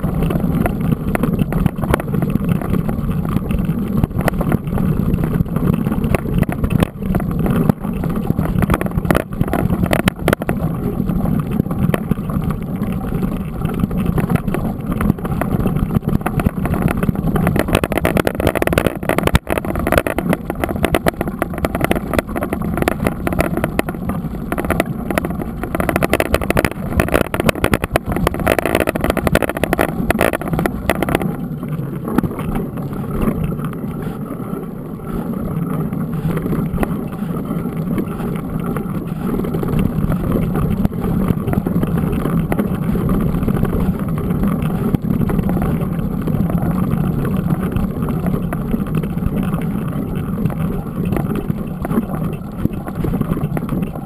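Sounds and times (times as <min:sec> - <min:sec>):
bike rattling and knocking: 0:00.0 - 0:34.4, 0:35.2 - 0:54.0
bike tyre rumble on dirt: 0:00.0 - 0:54.0.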